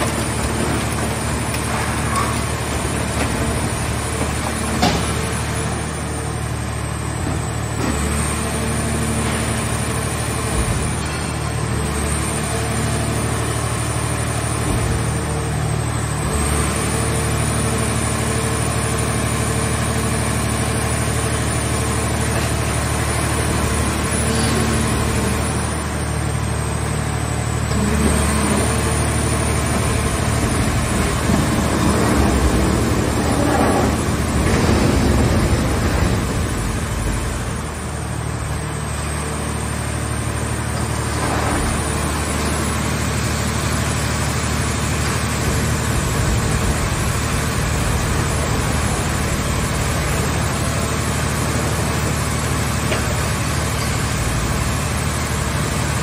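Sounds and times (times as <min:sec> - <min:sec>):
hydraulic motor drone with whine: 0:00.0 - 0:56.0.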